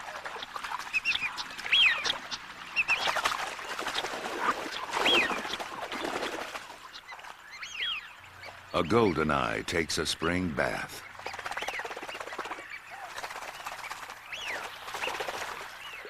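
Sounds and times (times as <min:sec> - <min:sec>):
ducks calling: 0:00.2 - 0:16.0.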